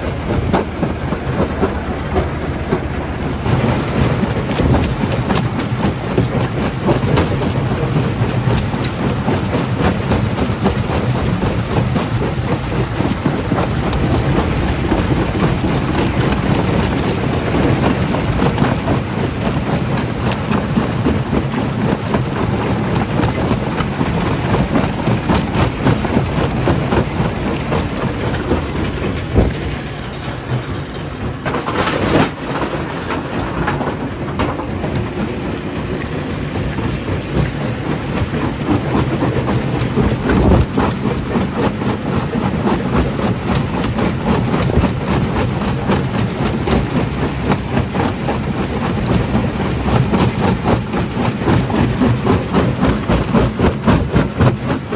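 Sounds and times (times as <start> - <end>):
rock crusher clattering: 0.0 - 54.9.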